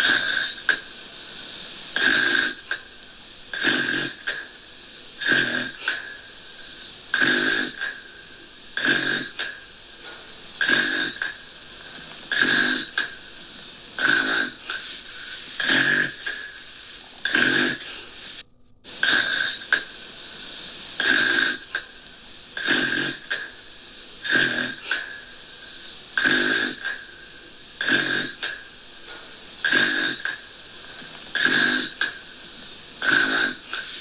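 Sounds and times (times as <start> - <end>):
rhythmic snoring: 0.0 - 34.0.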